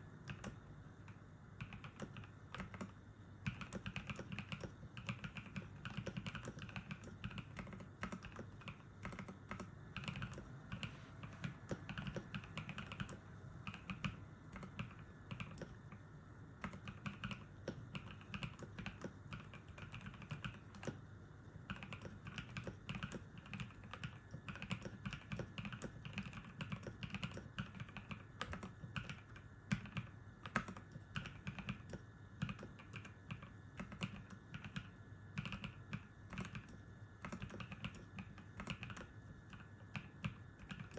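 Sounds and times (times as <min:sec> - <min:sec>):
mechanical keyboard typing: 0:00.2 - 0:16.0, 0:16.6 - 0:40.9.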